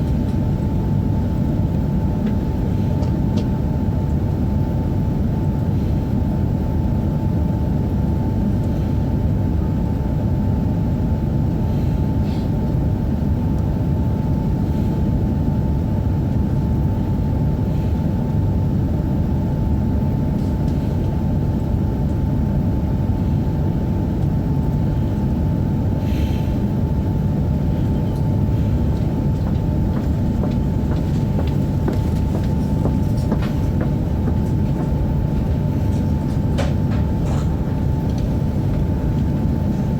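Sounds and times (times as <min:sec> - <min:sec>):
low rumble and hum in train: 0:00.0 - 0:39.9.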